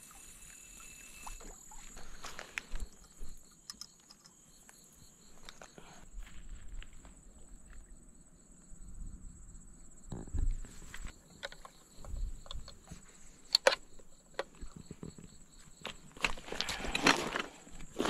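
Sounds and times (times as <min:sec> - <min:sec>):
night insects chirping: 0:00.0 - 0:18.0.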